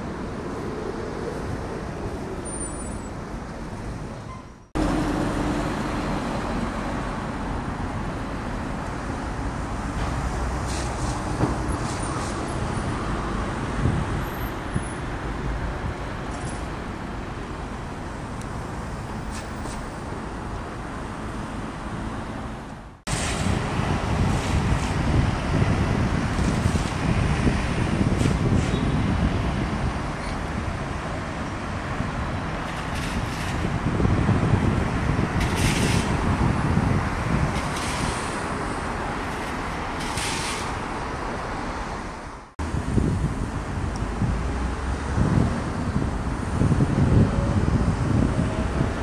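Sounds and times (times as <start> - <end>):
hum of road traffic: 0.0 - 49.0.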